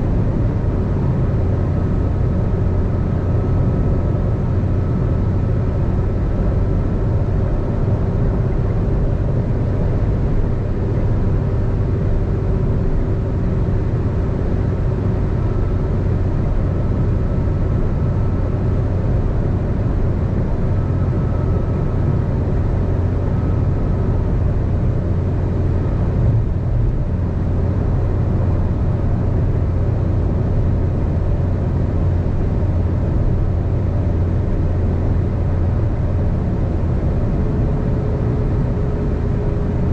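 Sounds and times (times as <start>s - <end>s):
car engine drone: 0.0s - 39.9s
tyres rumbling on road: 0.0s - 39.9s.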